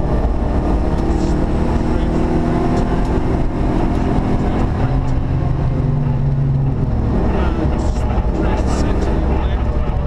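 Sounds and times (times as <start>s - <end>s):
car engine running hard: 0.0s - 10.0s
road and tyre noise: 0.0s - 10.0s.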